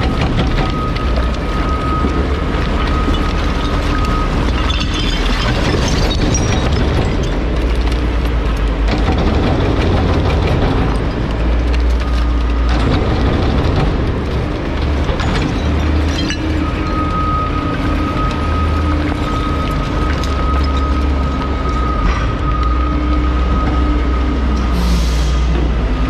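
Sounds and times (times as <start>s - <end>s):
wood cracking and splintering: 0.0s - 24.4s
truck engine and hydraulic drone: 0.0s - 26.0s.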